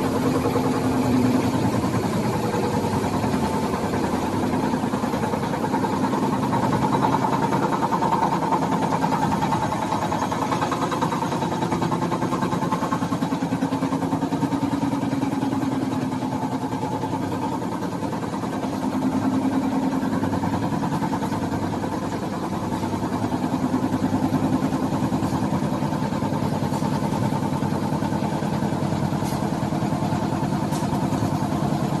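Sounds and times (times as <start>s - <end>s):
production machine drone and clatter: 0.0s - 32.0s.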